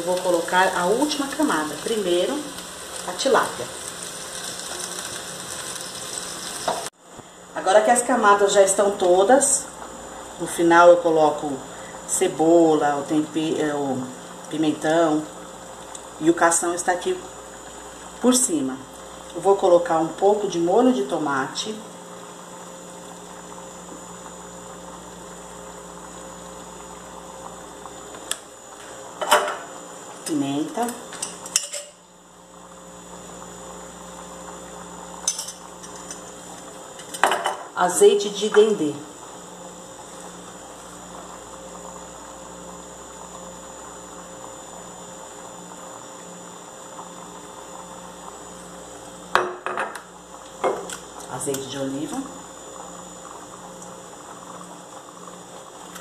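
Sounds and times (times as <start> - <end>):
food sizzling in a clay pot: 0.0 - 56.0
mechanical background hum: 0.0 - 56.0.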